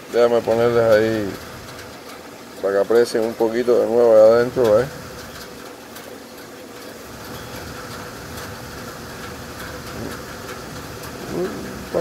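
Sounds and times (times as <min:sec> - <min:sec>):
low background rumble and hiss: 0:00.0 - 0:12.0.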